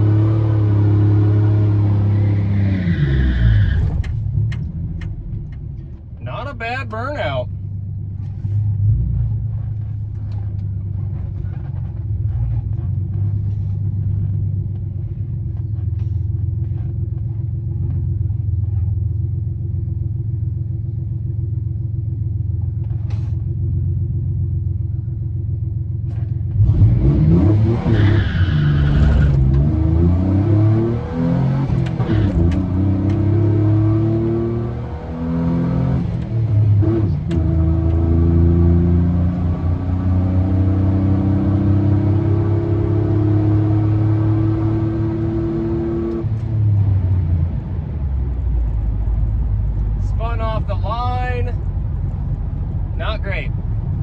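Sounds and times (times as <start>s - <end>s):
pickup engine idling and revving: 0.0s - 54.0s.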